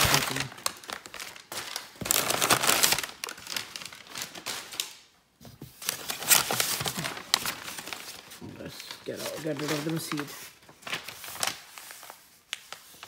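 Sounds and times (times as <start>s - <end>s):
packing material crinkling: 0.0s - 5.1s, 5.8s - 13.0s.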